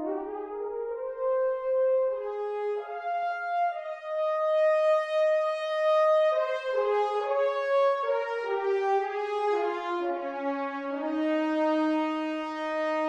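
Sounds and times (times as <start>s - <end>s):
french horn ensemble legato notes: 0.0s - 13.0s.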